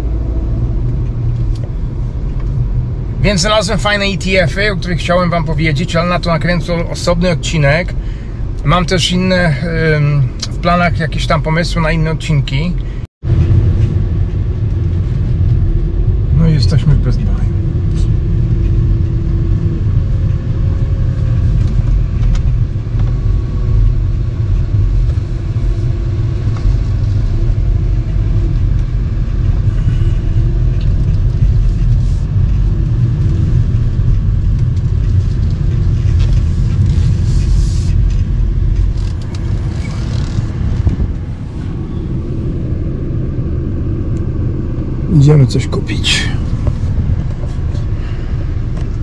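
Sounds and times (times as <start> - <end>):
car rumbling on the move: 0.0 - 49.0.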